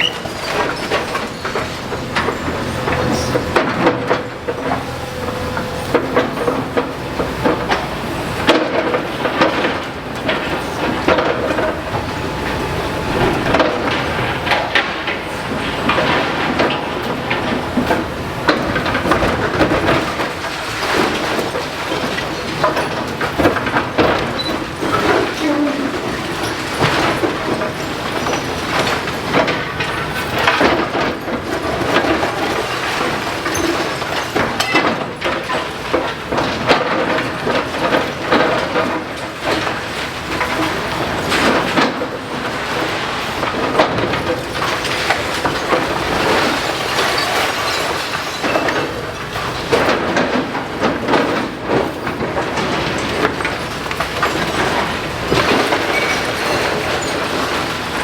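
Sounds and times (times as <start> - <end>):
excavator mechanical din: 0.0 - 58.0
masonry and metal crunching: 0.0 - 58.0.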